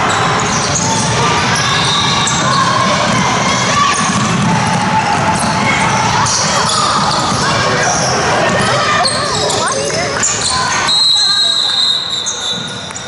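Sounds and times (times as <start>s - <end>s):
basketball bouncing on court: 0.0s - 11.0s
din of a game in gym: 0.0s - 13.0s
people calling out: 0.9s - 12.7s.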